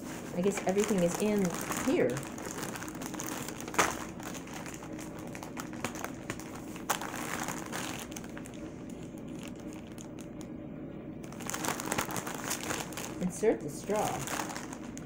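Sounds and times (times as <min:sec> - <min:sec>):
foil balloon crinkling: 0:00.0 - 0:10.5, 0:11.2 - 0:15.0
sharp foil crackles: 0:00.3 - 0:10.4, 0:11.2 - 0:15.0.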